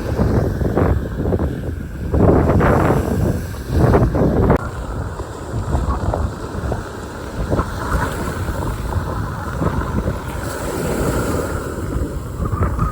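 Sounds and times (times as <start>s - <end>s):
wind rumbling on microphone: 0.0s - 12.9s.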